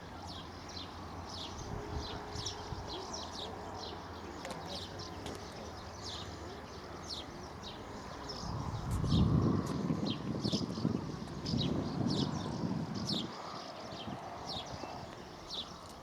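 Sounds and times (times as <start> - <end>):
small songbirds chirping: 0.0 - 16.0
wind rumble on microphone: 0.3 - 4.0, 5.1 - 16.0.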